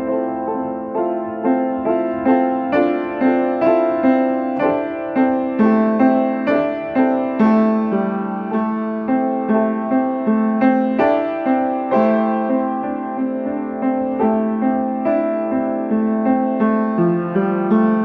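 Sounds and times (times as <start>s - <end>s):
solo piano improvisation: 0.0s - 18.0s.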